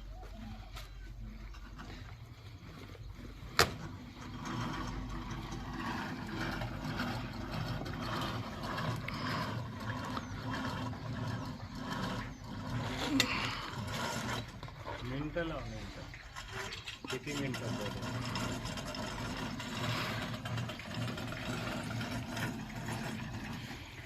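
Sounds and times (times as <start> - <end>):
pulley hoist running: 0.0 - 24.0.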